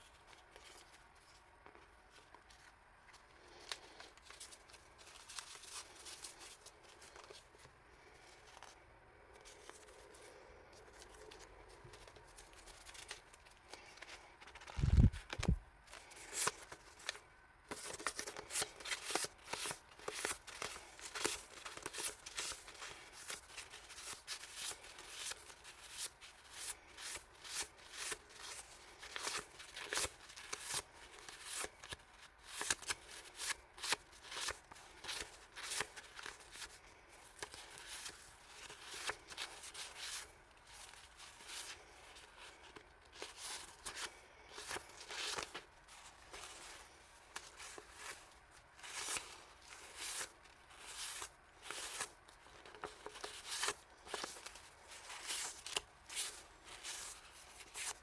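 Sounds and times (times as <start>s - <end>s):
paper and plastic rustling: 9.4s - 58.0s.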